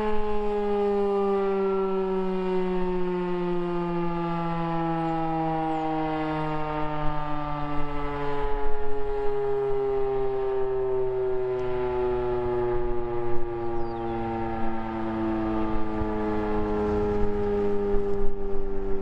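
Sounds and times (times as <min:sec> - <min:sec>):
warning siren steady tone: 0:00.0 - 0:19.0.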